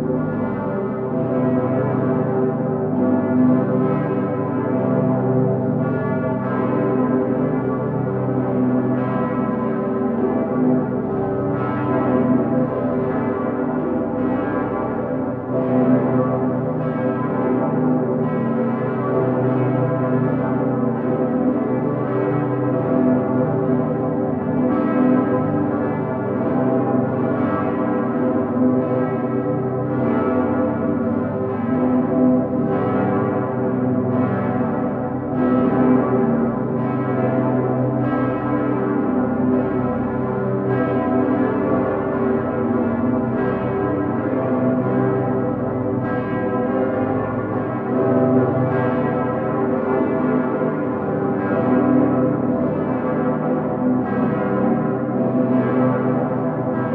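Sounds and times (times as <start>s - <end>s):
large church bells pealing: 0.0s - 56.9s.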